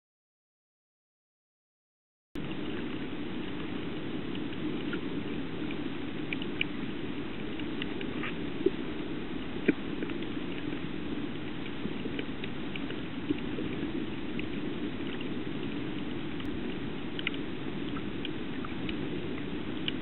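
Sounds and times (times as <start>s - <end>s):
muffled underwater rush: 2.4s - 20.0s
small underwater clicks and crackles: 2.4s - 20.0s.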